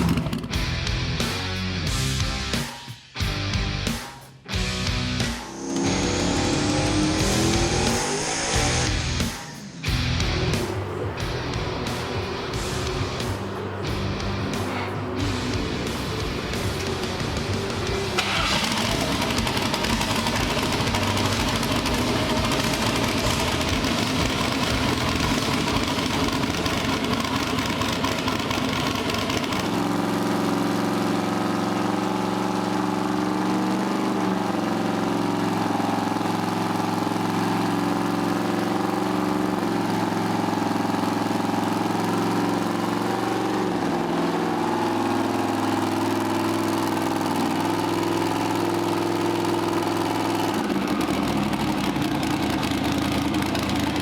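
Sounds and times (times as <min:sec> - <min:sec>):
engine running steadily: 0:00.0 - 0:02.6, 0:04.6 - 0:54.0.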